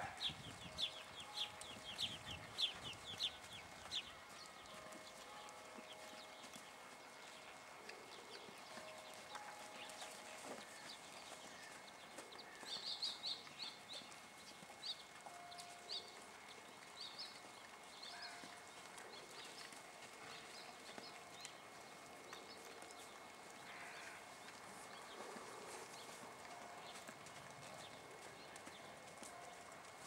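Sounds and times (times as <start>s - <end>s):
small birds chirping: 0.0s - 27.1s
horse hoofbeats on soft dirt: 0.0s - 30.0s.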